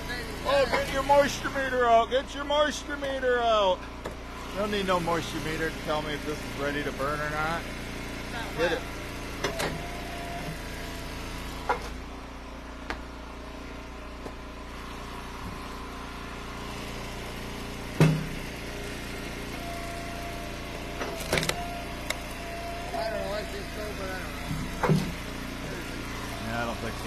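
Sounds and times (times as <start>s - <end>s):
gas engine running: 0.0s - 27.0s.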